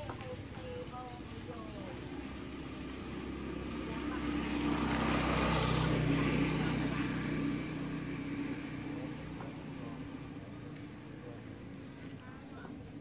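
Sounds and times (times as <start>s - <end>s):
motor vehicle passing by: 0.0s - 13.0s.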